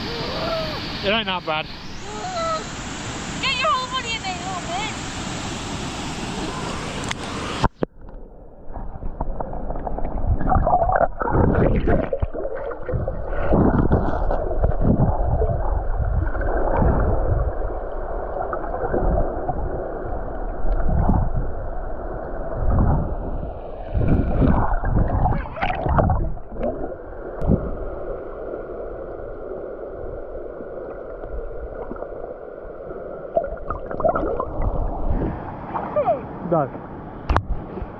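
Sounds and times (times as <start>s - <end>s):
muffled water sloshing underwater: 5.5s - 36.0s.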